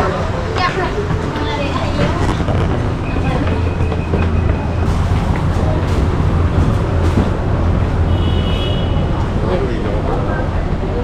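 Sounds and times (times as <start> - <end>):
traffic noise: 0.0 - 11.0
vehicle low rumble: 0.0 - 11.0.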